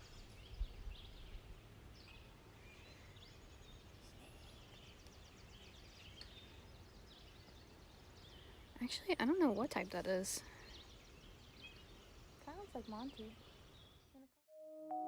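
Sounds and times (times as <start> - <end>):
low rumble of wind: 0.0 - 14.1
birds chirping and trilling: 0.0 - 14.3.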